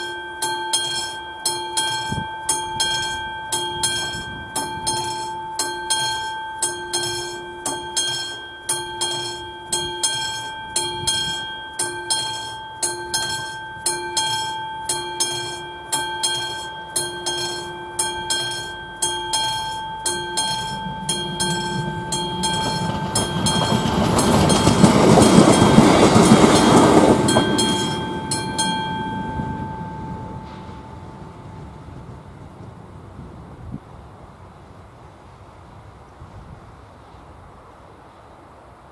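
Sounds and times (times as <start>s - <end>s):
level crossing warning bell: 0.0s - 33.3s
train passing: 0.0s - 38.9s.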